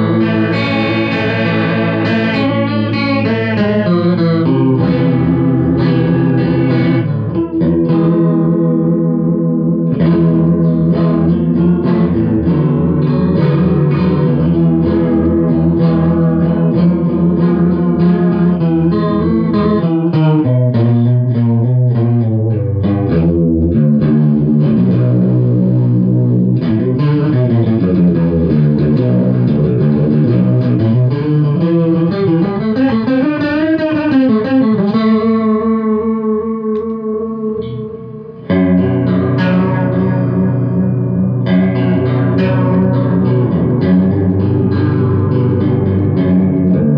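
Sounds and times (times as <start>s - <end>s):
electric guitar chords with chorus: 0.0s - 46.9s.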